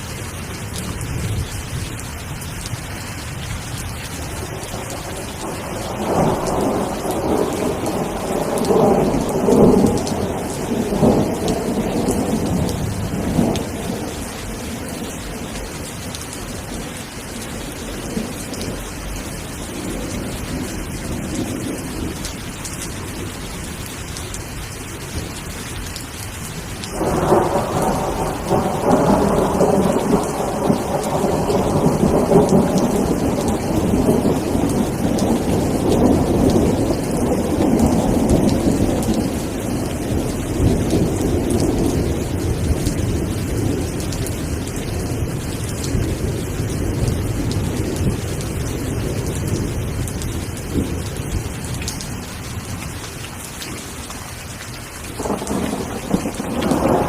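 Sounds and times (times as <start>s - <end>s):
steady rain: 0.0s - 57.0s
thunder rumbling: 4.2s - 23.4s, 26.8s - 53.5s, 55.0s - 57.0s.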